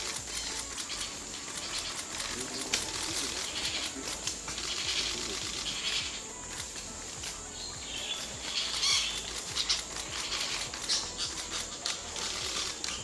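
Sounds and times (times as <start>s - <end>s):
clicks and light patter: 0.0s - 13.0s
parrots chirping: 0.0s - 13.0s.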